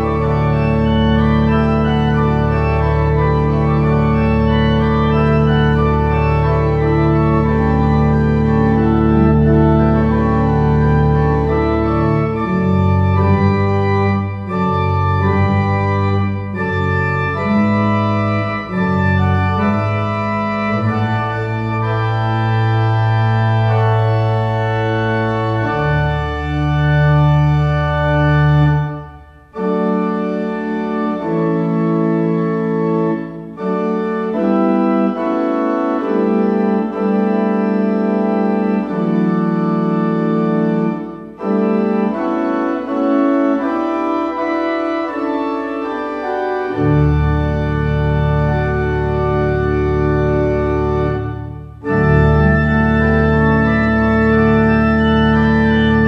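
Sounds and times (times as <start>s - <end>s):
pipe organ playing slow chords: 0.0s - 56.0s.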